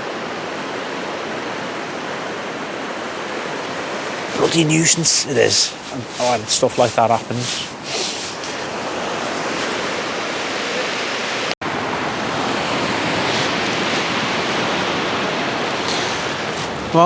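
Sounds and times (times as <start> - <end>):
surf washing on a beach: 0.0 - 17.0.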